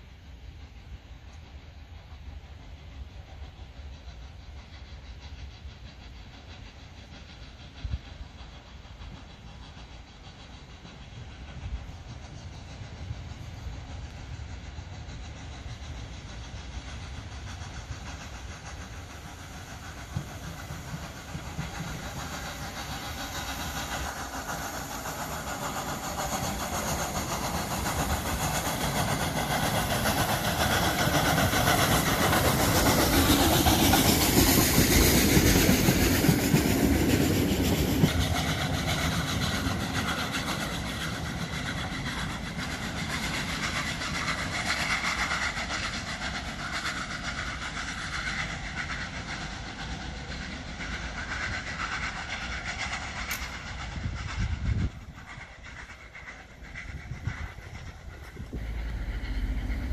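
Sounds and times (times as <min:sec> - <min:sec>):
steam hissing: 0:00.0 - 0:59.9
steam locomotive exhaust: 0:00.0 - 0:59.9.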